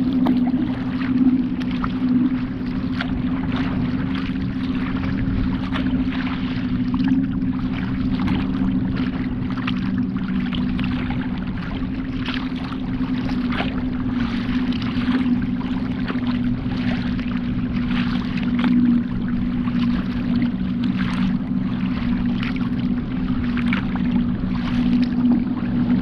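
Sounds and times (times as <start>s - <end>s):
steady low hum: 0.0s - 26.0s
water splashing against kayak hull: 0.0s - 26.0s.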